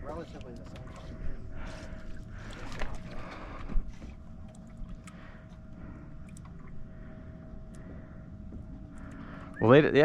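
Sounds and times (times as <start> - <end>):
faint hum: 0.0 - 10.0
water noise: 0.0 - 10.0
wind: 0.0 - 10.0.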